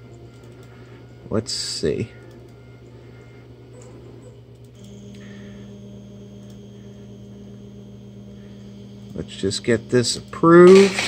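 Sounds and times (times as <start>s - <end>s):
printer low hum: 0.0s - 11.0s.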